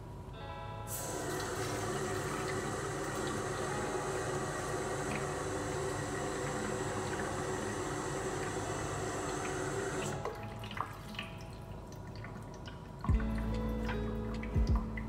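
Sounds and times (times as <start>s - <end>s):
tap water filling pitcher: 1.0s - 15.0s.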